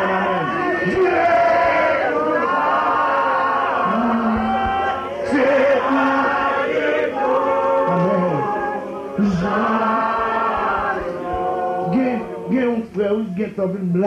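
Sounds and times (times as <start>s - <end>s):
congregation singing worship song: 0.0s - 13.7s.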